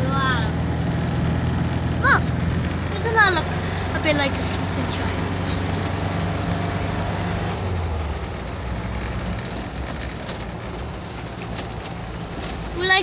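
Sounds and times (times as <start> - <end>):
road noise: 0.0 - 13.0
van engine running: 0.0 - 13.0.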